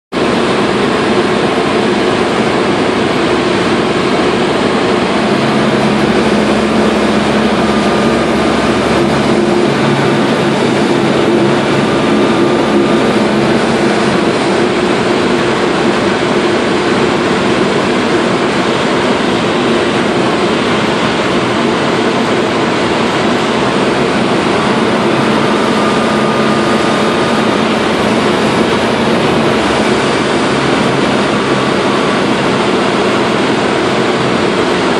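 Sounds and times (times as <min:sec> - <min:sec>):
propeller aircraft engine running: 0:00.1 - 0:34.9
rushing air noise: 0:00.1 - 0:34.9.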